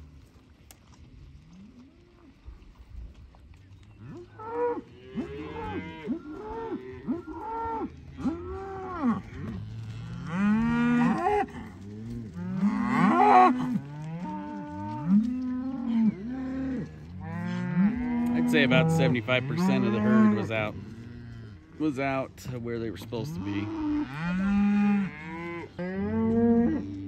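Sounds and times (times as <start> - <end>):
cows mooing: 4.0 - 27.0.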